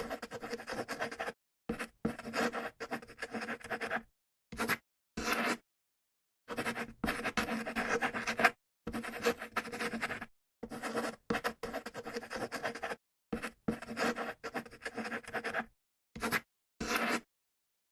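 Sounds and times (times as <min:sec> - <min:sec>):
pen scratching on paper: 0:00.0 - 0:05.6, 0:06.5 - 0:17.3.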